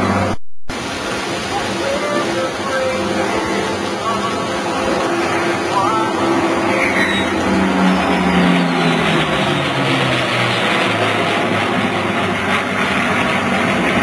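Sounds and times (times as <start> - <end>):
jet and piston aircraft flying overhead: 0.0 - 14.0.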